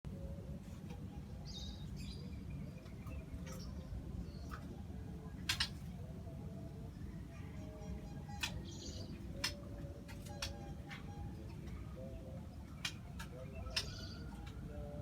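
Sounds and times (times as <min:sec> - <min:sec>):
birds chirping: 0:00.1 - 0:15.0.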